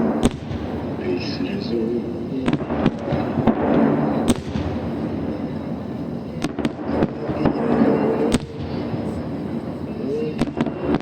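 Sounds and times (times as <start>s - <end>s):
crackling rumble: 0.0s - 11.0s
firework bangs: 0.0s - 11.0s.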